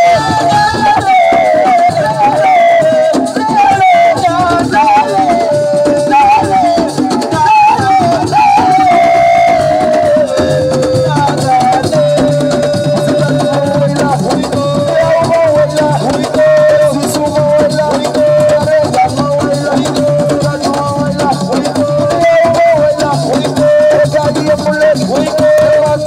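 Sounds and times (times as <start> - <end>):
shaker rattles: 0.0 - 26.0.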